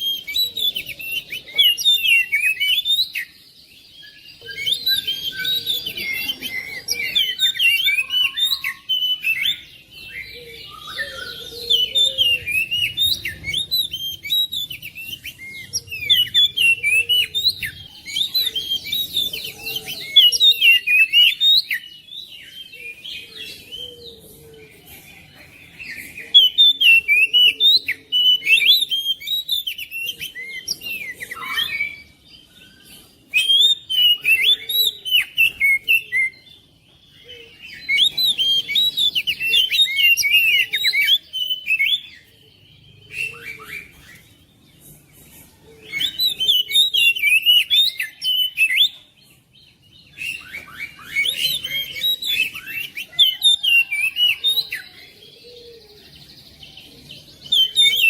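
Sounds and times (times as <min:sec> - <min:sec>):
bird singing whistled notes: 0:00.0 - 0:24.8, 0:25.6 - 0:58.0.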